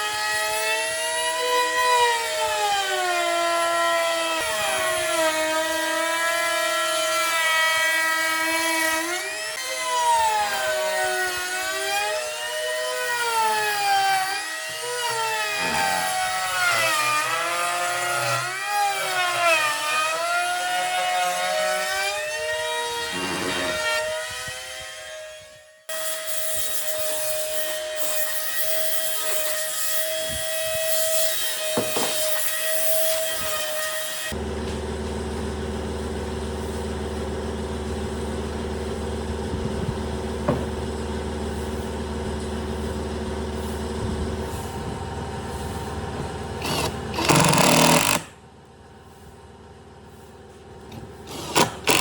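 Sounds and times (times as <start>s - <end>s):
power tool whine: 0.0s - 48.4s, 50.7s - 52.0s.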